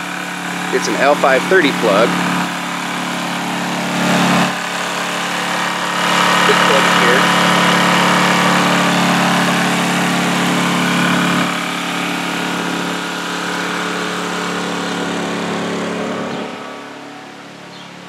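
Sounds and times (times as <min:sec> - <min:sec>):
generator engine humming: 0:00.0 - 0:18.0.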